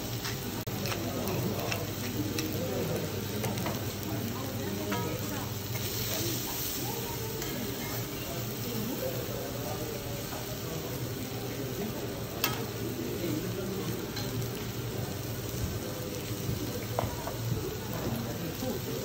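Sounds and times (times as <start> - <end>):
steak sizzling on griddle: 0.0 - 19.0.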